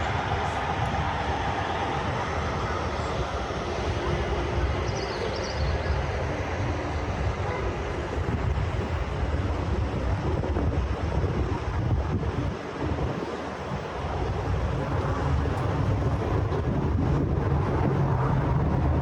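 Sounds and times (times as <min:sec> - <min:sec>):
road traffic rumble: 0:00.0 - 0:19.0
wind buffeting microphone: 0:00.0 - 0:19.0.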